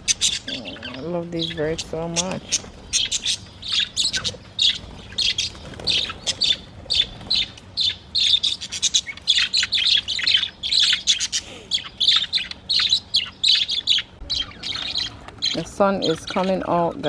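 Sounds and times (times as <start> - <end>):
budgerigars chirping and chattering: 0.0 - 17.0.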